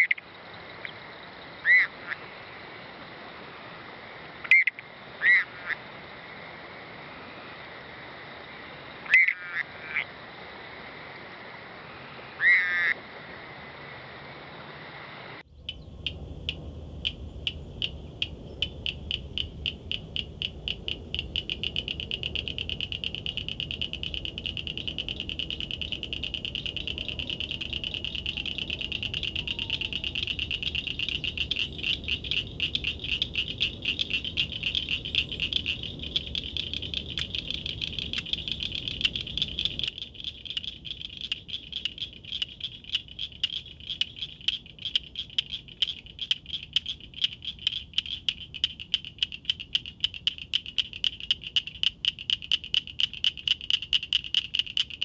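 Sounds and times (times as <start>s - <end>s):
frogs clicking: 0.0s - 2.6s, 4.3s - 5.9s, 9.0s - 10.2s, 12.4s - 13.0s, 15.6s - 55.0s.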